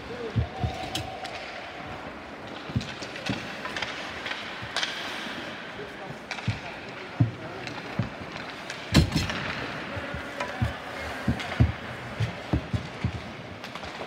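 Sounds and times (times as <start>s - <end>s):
arena background noise: 0.0s - 14.0s
hockey sticks and puck knocking: 0.3s - 14.0s.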